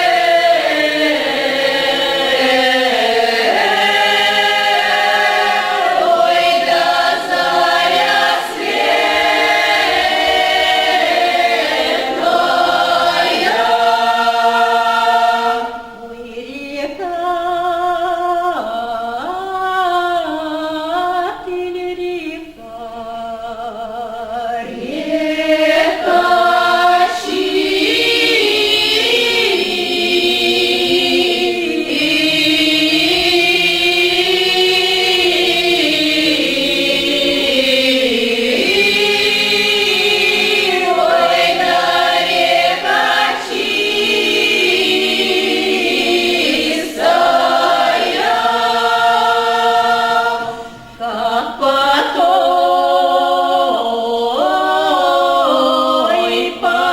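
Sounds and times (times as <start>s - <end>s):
choir singing a cappella: 0.0s - 56.9s.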